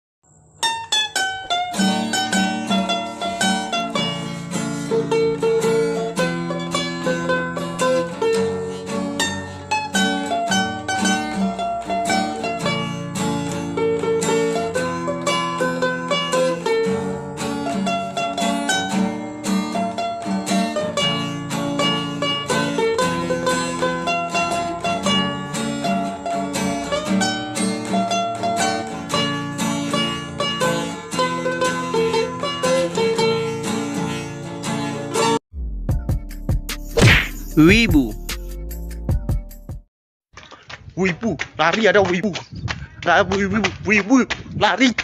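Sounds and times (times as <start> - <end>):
upbeat ukulele music: 0.6 - 33.6, 36.0 - 39.8.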